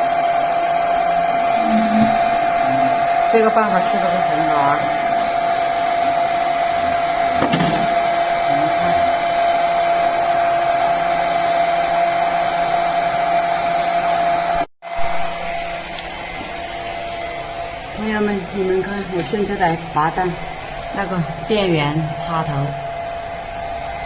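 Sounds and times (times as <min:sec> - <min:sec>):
hair dryer running: 0:00.0 - 0:24.0.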